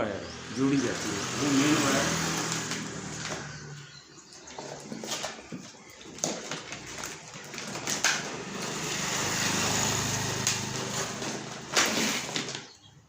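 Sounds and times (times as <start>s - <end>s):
small engine running: 0.0s - 12.8s.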